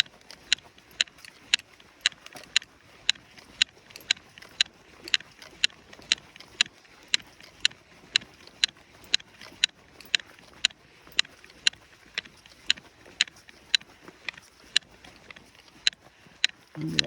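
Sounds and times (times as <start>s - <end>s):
hiking gear clicking with steps: 0.0s - 17.0s.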